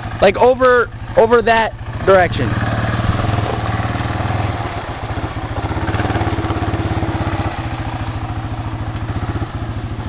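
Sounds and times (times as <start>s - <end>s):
quad engine running at low speed: 0.0s - 10.0s.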